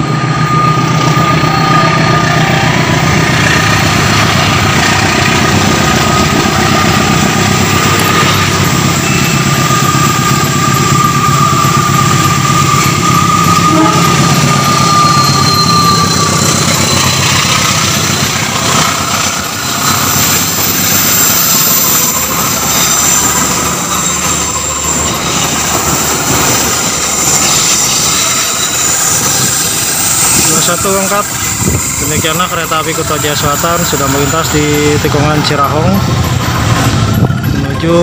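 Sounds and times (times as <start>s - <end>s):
diesel locomotive engine: 0.0s - 38.0s
wheels squealing on curve: 0.0s - 38.0s.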